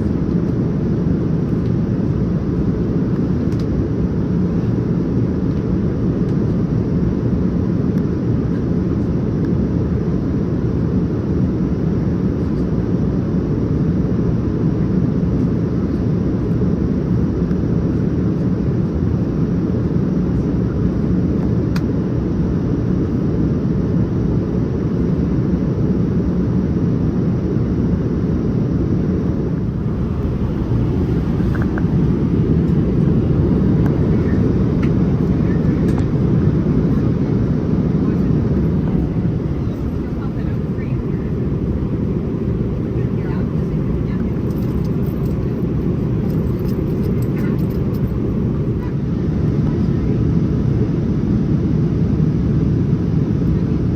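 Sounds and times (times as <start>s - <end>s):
airliner cabin engine rumble: 0.0s - 53.9s
faint steady hum: 0.0s - 53.9s.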